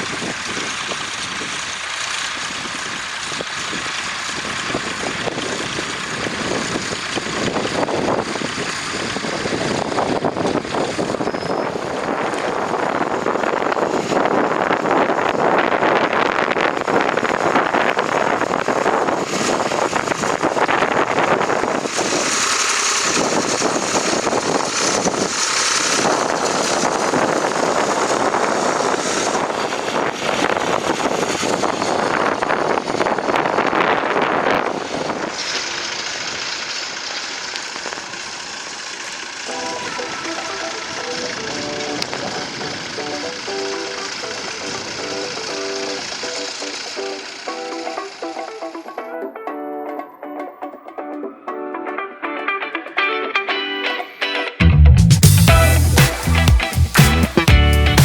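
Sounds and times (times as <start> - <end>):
tractor engine running: 0.0 - 49.4, 54.1 - 58.0.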